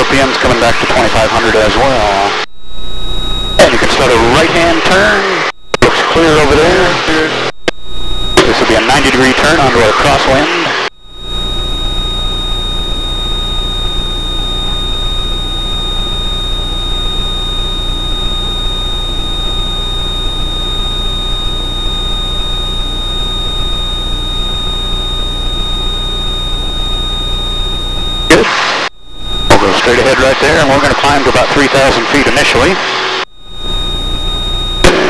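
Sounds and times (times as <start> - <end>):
high-pitched electrical whine: 0.0 - 35.0.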